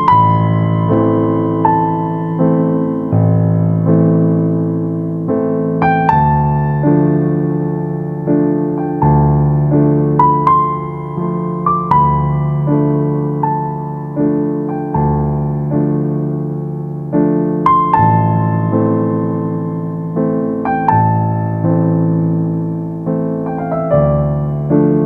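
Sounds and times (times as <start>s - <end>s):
piano chords and melody: 0.0s - 25.0s.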